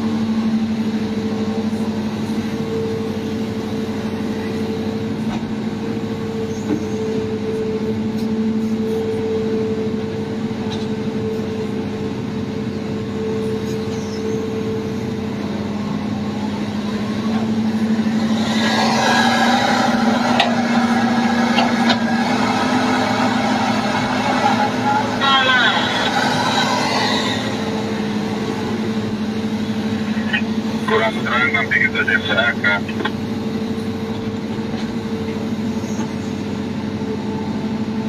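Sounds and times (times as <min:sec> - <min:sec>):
diesel machinery engine drone: 0:00.0 - 0:38.0.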